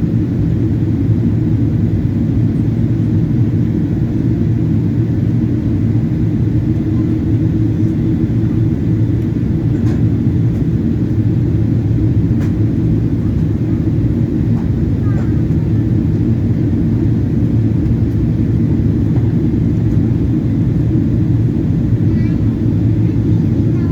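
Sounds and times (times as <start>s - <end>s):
airplane cabin roar: 0.0s - 23.9s.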